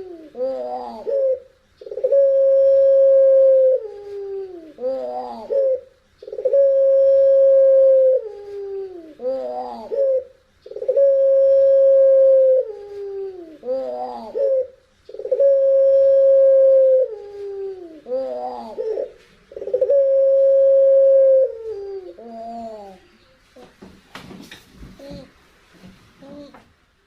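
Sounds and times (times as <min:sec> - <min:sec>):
dove cooing: 0:00.0 - 0:23.1.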